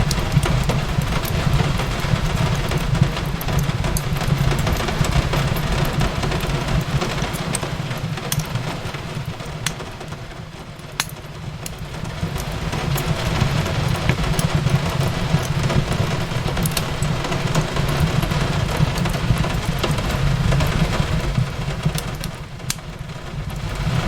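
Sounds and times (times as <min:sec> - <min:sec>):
rain on a window: 0:00.0 - 0:24.0
wood fire crackling and popping: 0:00.0 - 0:24.0.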